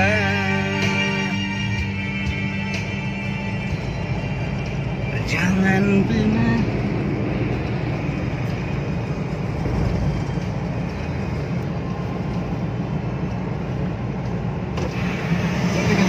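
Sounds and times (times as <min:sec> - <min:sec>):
car engine and tyre noise: 0:00.0 - 0:16.0.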